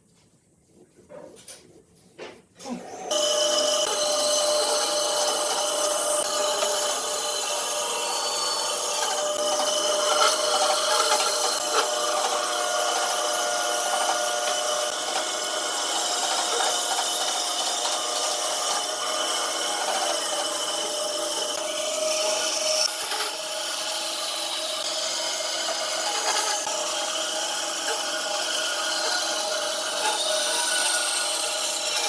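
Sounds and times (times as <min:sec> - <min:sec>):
power tool whining on wood: 0:02.6 - 0:32.0.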